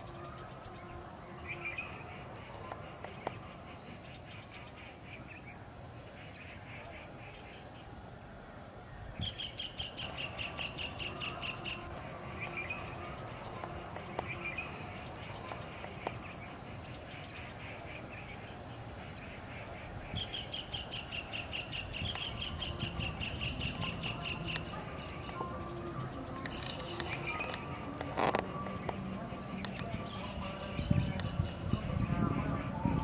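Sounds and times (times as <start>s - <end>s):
faint steady high tone: 0.0s - 33.0s.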